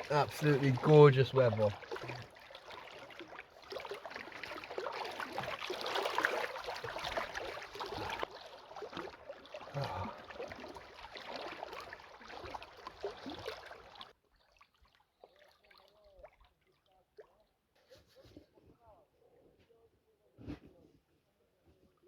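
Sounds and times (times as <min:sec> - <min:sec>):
water lapping at shore: 0:00.0 - 0:18.4.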